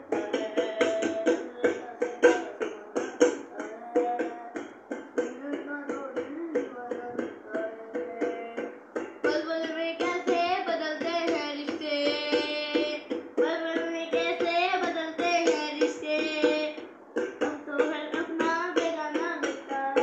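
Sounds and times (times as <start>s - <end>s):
child singing: 0.0s - 20.0s
hands tapping on a steel bowl: 0.0s - 20.0s.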